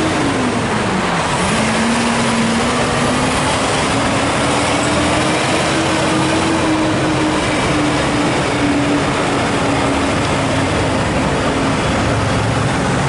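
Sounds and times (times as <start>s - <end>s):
passing cars: 0.0s - 13.0s
truck diesel engine drone: 0.0s - 13.0s.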